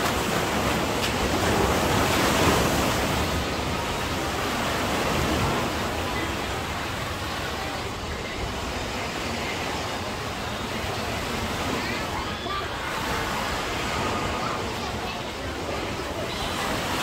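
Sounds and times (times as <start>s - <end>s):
waves breaking on a beach: 0.0s - 17.0s.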